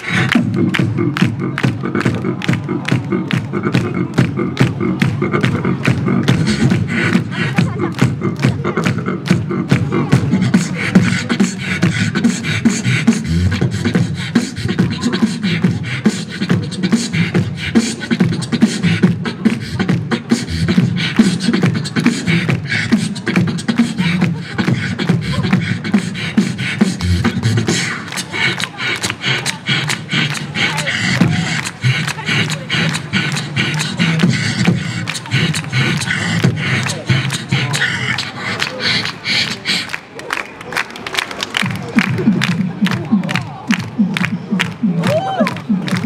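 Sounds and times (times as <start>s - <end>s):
beatboxing into a microphone: 0.0s - 40.8s, 41.5s - 46.0s.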